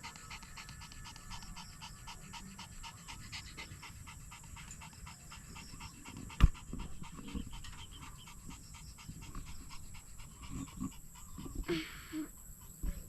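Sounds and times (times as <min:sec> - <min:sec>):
dog panting fast: 0:00.0 - 0:13.0.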